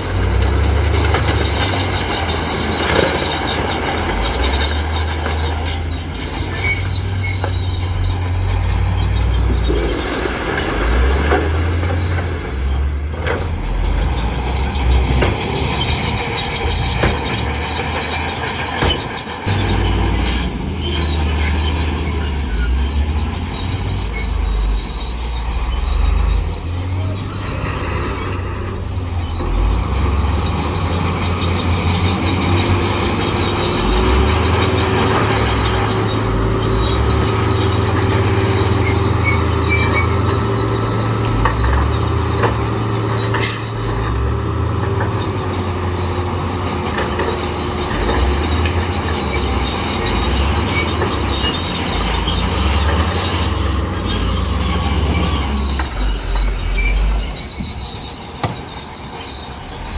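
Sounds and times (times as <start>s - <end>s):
bulldozer diesel engine running: 0.0s - 59.9s
steel tracks squealing and clanking: 0.0s - 59.9s.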